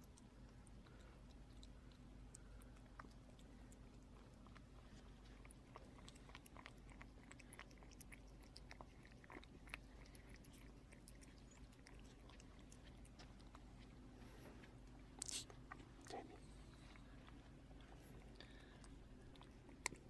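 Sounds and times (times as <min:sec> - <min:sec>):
cat chewing and lapping: 0:00.0 - 0:20.0
low steady hum: 0:00.0 - 0:20.0.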